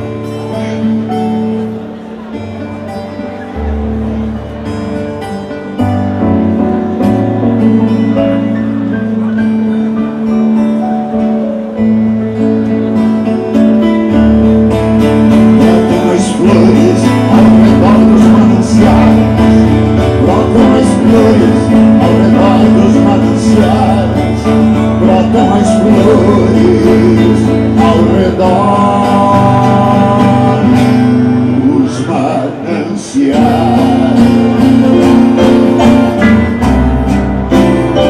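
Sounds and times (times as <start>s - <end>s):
acoustic guitar strummed and picked: 0.0s - 38.0s
bass line: 3.6s - 32.6s, 33.2s - 38.0s.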